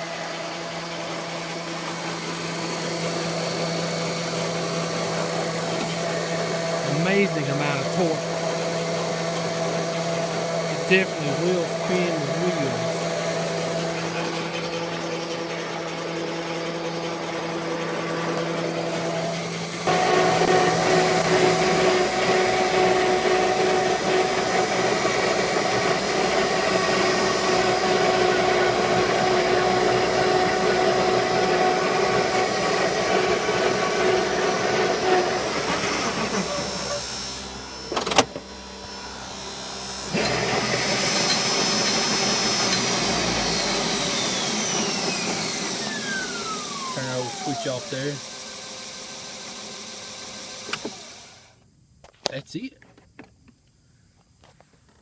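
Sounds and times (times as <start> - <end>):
electric motor whining: 0.0 - 51.6.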